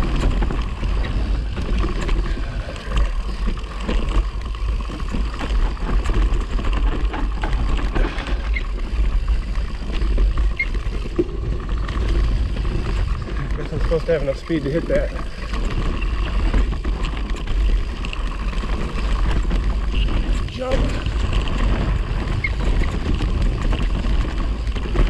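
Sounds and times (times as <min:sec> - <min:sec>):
bike clicks and rattles: 0:00.0 - 0:25.0
tyres crackling over dirt and leaves: 0:00.0 - 0:25.0
wind rumble on microphone: 0:00.0 - 0:25.0.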